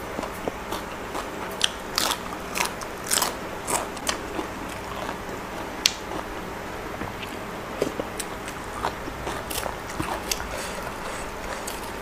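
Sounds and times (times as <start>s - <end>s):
crunchy chewing of cabbage: 0.0s - 12.0s.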